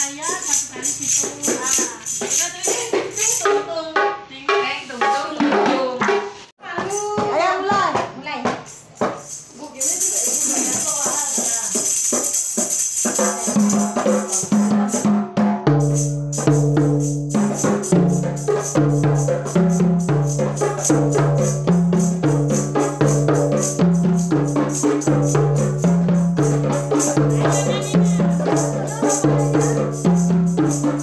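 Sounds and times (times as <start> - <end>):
jingling tambourine: 0.0 - 3.9, 6.7 - 31.0
frame drums: 0.0 - 31.0.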